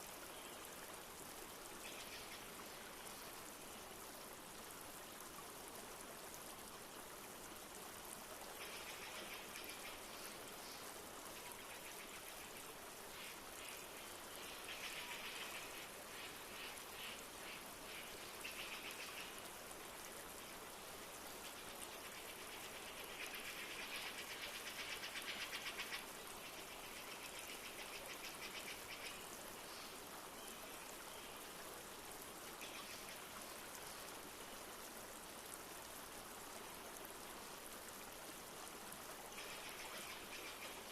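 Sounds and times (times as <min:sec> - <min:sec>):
flowing river: 0:00.0 - 0:40.9.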